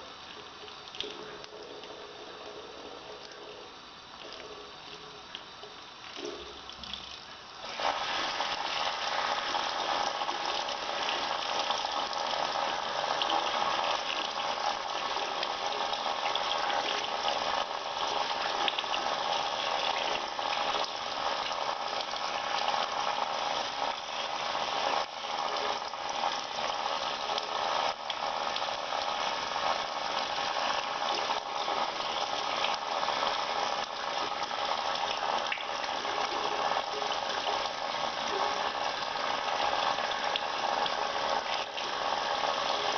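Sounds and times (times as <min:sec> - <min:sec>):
tap water running over hands: 0:04.2 - 0:42.9.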